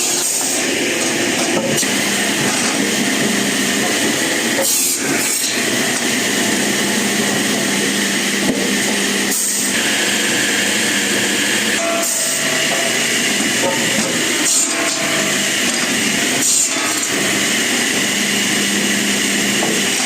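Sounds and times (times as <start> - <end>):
woodworking machine cutting wood: 0.0 - 20.0.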